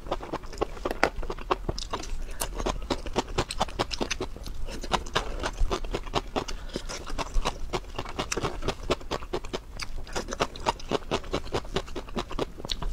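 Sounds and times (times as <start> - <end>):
wet chewing and mouth clicks: 0.0 - 12.9.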